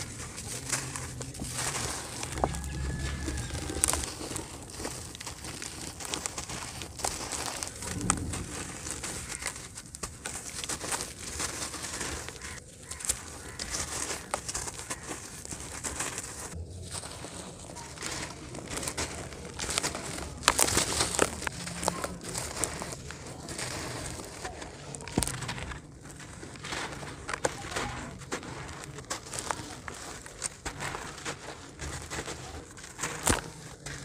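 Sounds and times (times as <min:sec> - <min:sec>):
dry dirt crumbling by hand: 0:00.0 - 0:34.0.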